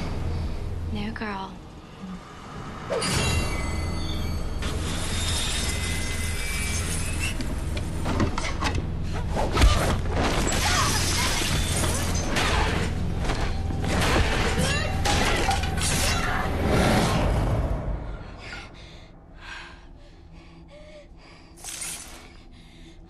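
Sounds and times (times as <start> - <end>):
low droning score: 0.0 - 23.0.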